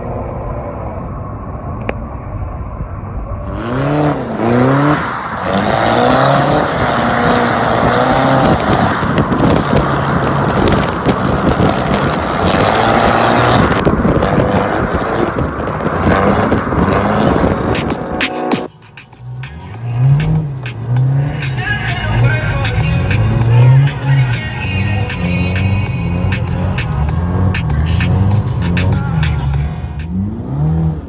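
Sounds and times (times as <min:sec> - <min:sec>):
car engines revving hard: 0:00.0 - 0:31.0
tyre and road noise: 0:00.0 - 0:31.0.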